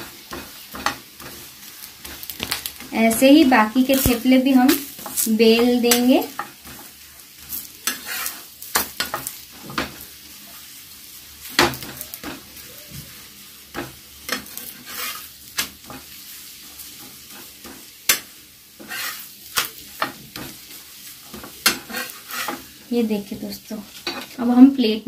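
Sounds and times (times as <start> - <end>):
flatbread sizzling in oil: 0.0 - 25.0
metal spatula scraping griddle: 0.3 - 10.1, 11.4 - 22.8.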